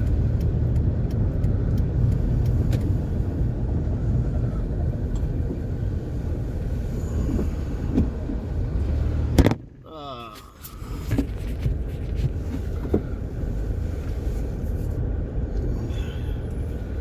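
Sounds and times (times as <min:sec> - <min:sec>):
van engine and road noise: 0:00.0 - 0:17.0.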